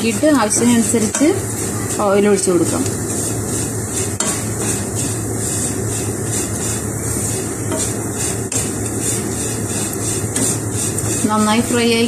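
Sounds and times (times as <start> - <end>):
food sizzling in oil: 0.0 - 12.0
wooden spatula scraping pan: 0.0 - 12.0.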